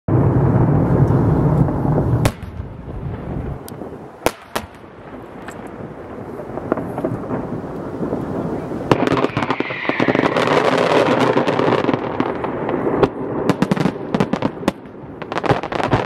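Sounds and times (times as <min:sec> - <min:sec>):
deep fireworks rumble: 0:00.1 - 0:16.0
faint fireworks cracks: 0:00.1 - 0:16.0
fireworks bangs: 0:00.1 - 0:16.0.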